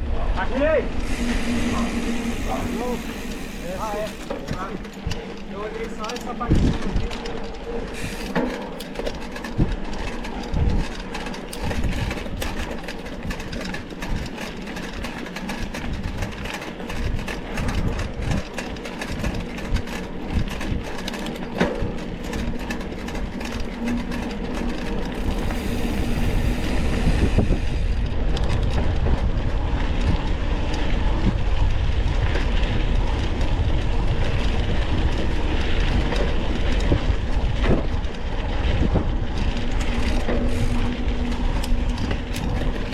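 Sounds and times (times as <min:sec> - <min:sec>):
bike rattling over rough trail: 0:00.0 - 0:42.9
heavy steady rumble: 0:00.0 - 0:42.9.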